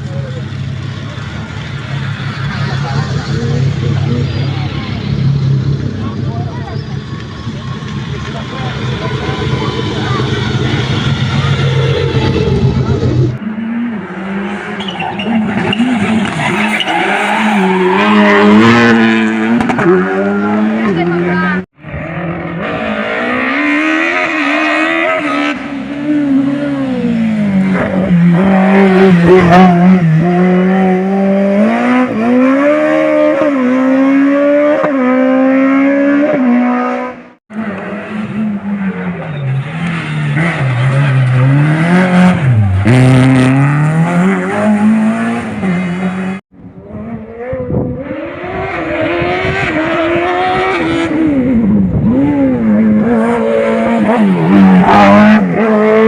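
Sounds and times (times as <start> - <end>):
race car engine revving: 7.7 - 56.0.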